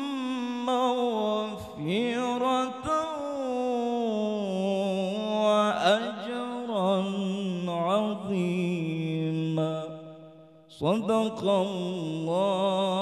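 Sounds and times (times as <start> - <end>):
man chanting melodically into microphone: 0.0 - 13.0.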